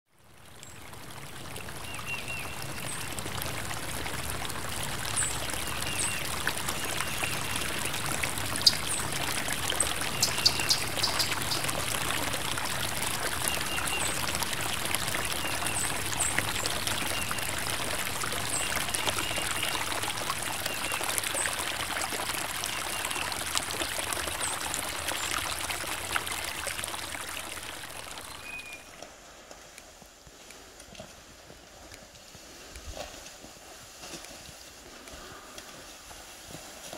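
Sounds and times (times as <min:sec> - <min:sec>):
running water: 0:00.2 - 0:36.9.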